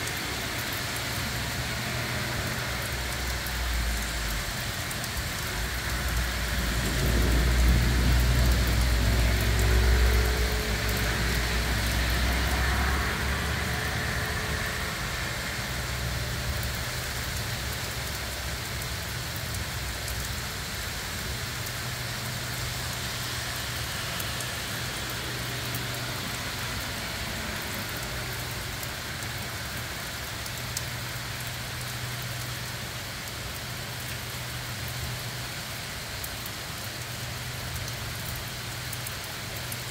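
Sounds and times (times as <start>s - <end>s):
car passing on wet street: 0.0s - 39.9s
heavy rain on leaves and pavement: 0.0s - 39.9s.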